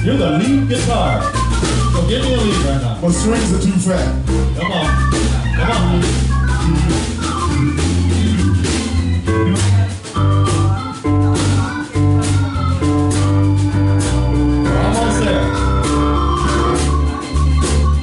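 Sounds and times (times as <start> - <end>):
drum kit hits: 0.0 - 18.0
electric bass notes: 0.0 - 18.0
held organ tones: 0.0 - 18.0.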